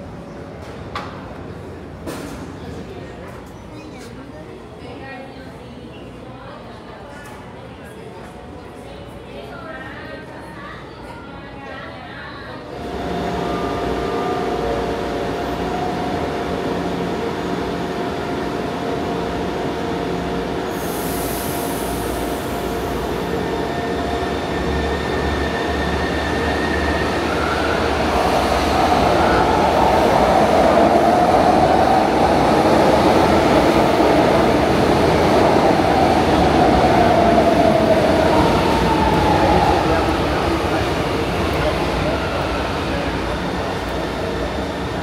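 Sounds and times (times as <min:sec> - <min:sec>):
metro train running: 0:00.0 - 0:45.0.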